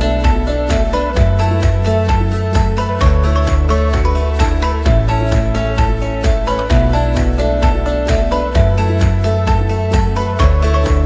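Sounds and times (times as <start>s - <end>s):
upbeat music with bass line: 0.0s - 11.0s.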